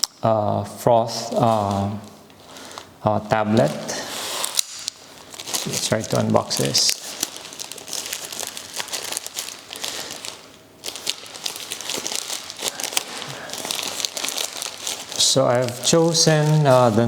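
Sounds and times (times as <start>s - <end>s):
packaging wrapper crinkling: 0.0s - 0.2s, 1.3s - 17.0s.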